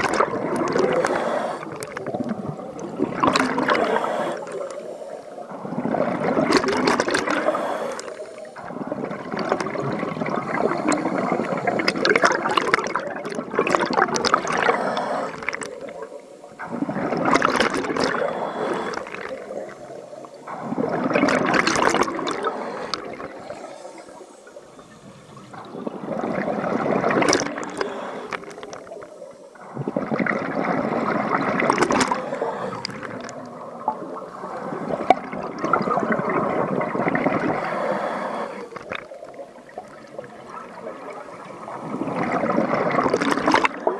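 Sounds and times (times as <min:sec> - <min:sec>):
underwater breath bubbles: 0:00.0 - 0:43.9.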